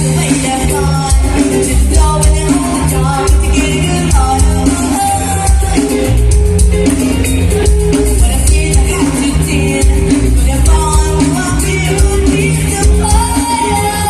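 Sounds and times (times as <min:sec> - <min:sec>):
live band playing latin music: 0:00.0 - 0:14.0
person singing: 0:00.0 - 0:14.0.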